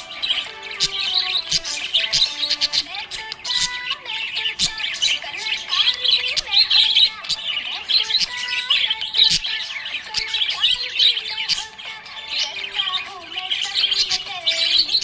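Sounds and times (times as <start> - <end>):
parrots chirping: 0.0 - 15.0.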